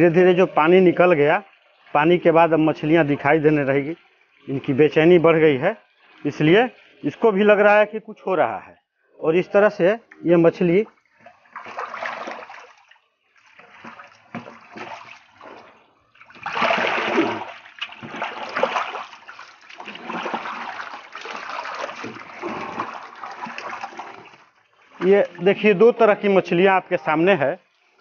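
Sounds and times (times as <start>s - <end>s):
water splashing in a metal tub: 0.0s - 7.7s, 9.8s - 28.0s.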